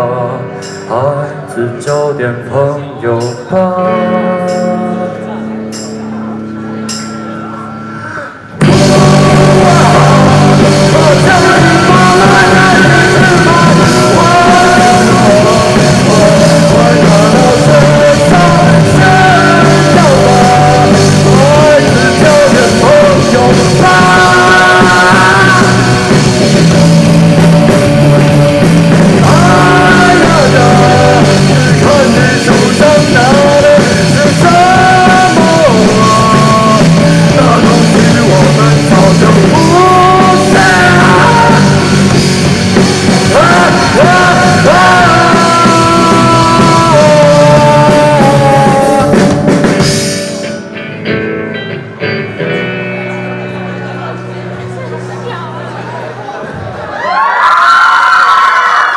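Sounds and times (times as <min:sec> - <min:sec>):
rock band playing: 0:00.0 - 0:58.9.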